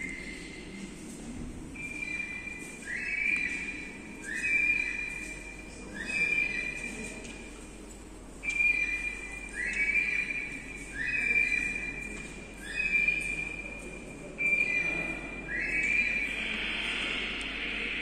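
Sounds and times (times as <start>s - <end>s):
recorded birdsong through loudspeakers: 0.0s - 18.0s.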